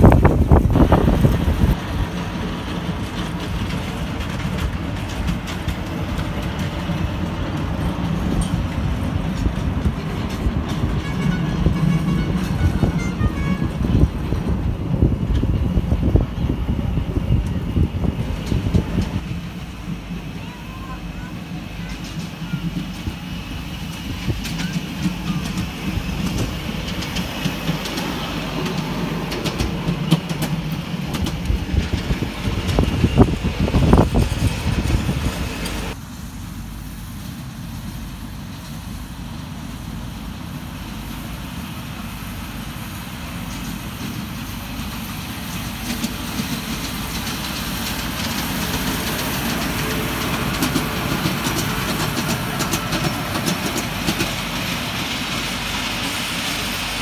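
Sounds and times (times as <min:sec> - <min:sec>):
miniature trains on track: 0:00.0 - 0:57.0.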